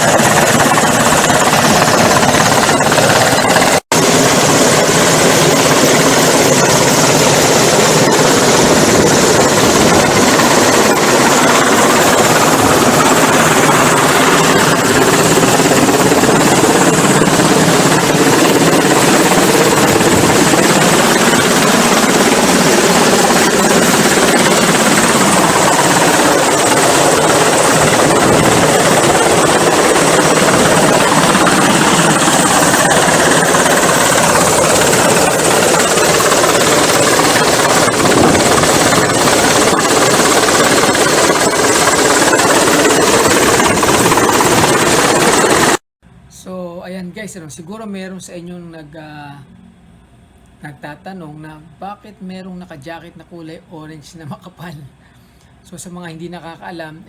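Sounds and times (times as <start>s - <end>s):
helicopter rotor and engine: 0.0s - 45.8s.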